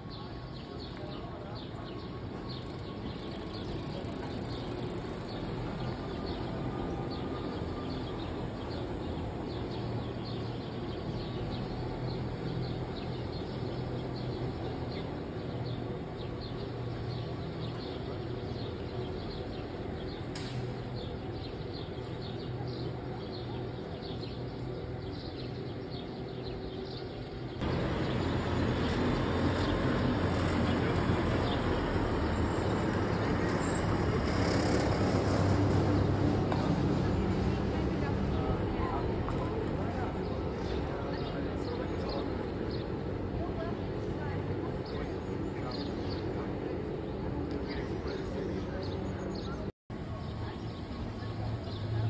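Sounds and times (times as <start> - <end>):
distant electric train hum: 1.7 - 52.0.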